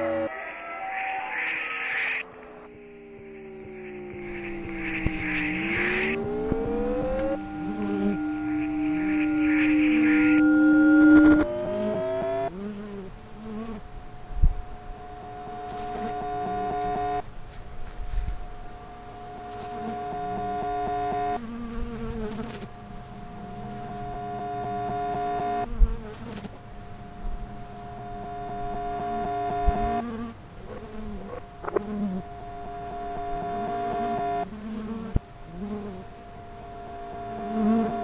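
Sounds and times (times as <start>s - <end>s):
buzzing layered tones: 0.0s - 38.0s.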